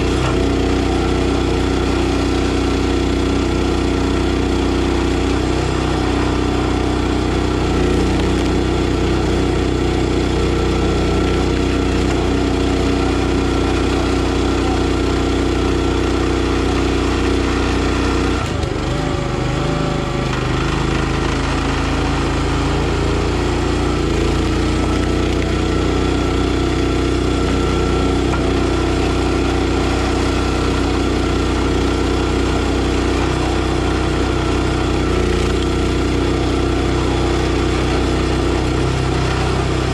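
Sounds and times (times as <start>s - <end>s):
log splitter engine running: 0.0s - 39.9s.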